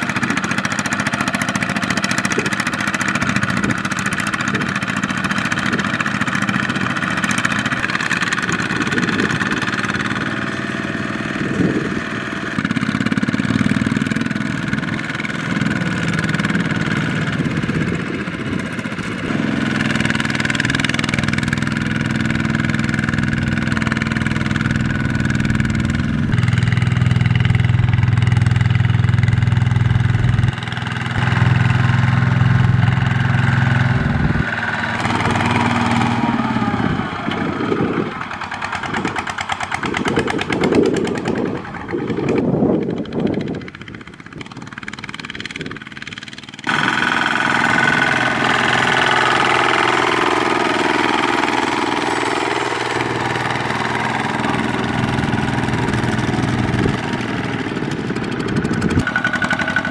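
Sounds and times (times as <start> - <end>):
diesel tractor engines running hard: 0.0 - 59.9.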